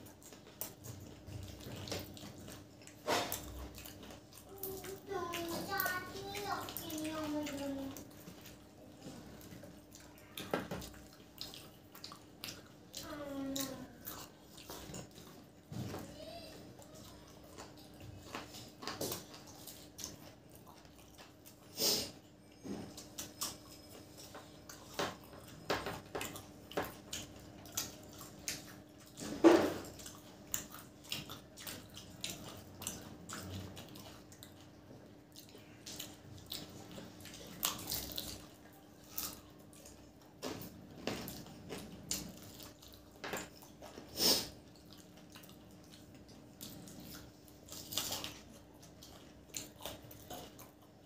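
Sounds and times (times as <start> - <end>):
wet chewing and lip smacks: 0.0 - 15.7, 16.8 - 51.0.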